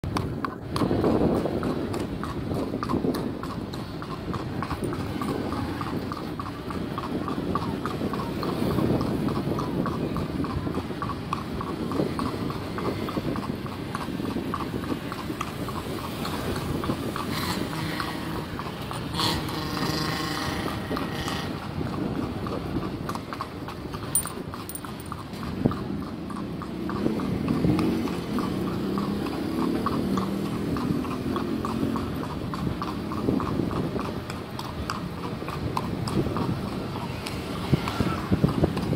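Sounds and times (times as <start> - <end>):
horse hooves clip-clopping on asphalt: 0.0 - 38.9.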